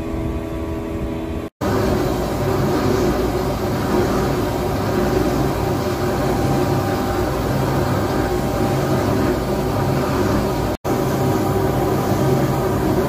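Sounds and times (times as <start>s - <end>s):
engraving machine humming: 1.6s - 13.0s.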